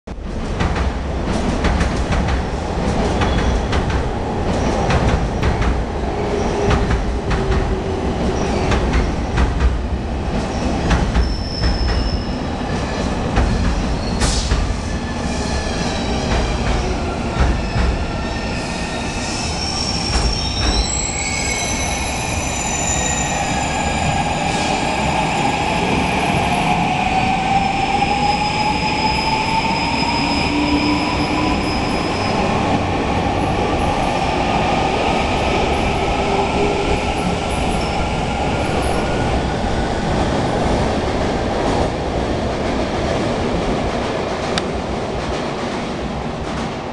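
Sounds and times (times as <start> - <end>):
train rumbling: 0.1 - 46.9.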